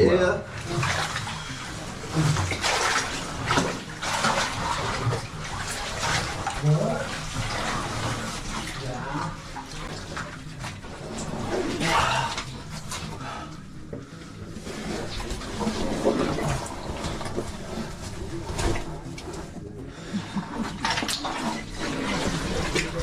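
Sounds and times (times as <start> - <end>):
water sloshing and splashing: 0.4 - 23.0.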